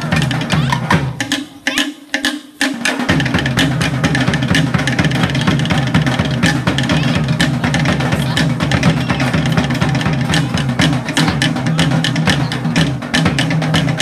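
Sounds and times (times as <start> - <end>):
low repeating drum beat: 0.0 - 14.0.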